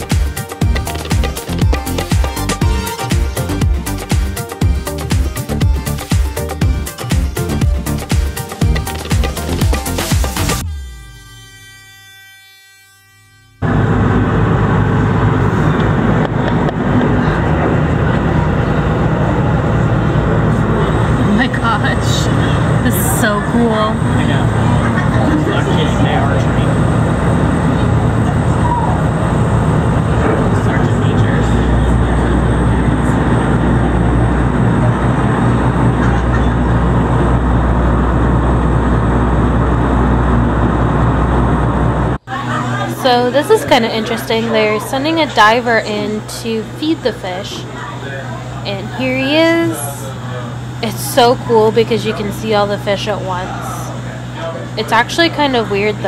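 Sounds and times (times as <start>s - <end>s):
boat engine running: 0.0s - 11.4s, 13.6s - 56.0s.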